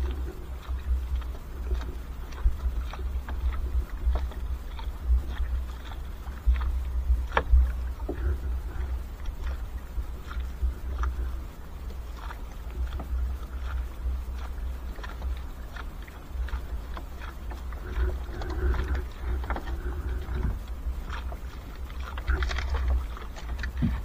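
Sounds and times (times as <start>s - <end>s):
low rumble: 0.0s - 24.0s
net rustling over hull: 0.0s - 24.0s.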